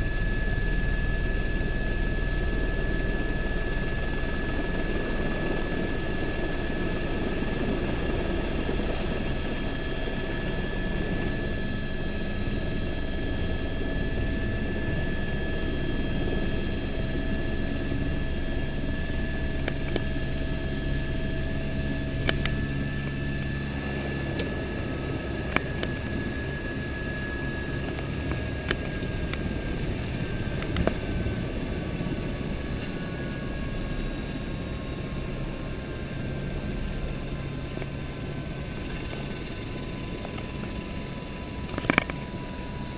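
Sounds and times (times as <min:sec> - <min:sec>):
helicopter engine whine and rumble: 0:00.0 - 0:42.9.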